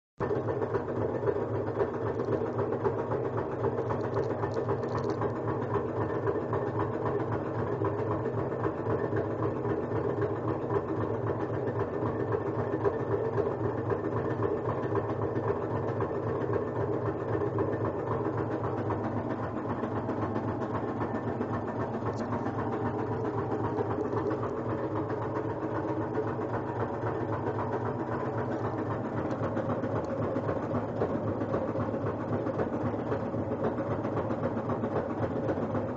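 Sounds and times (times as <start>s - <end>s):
washing machine spinning rattling: 0.2s - 35.9s.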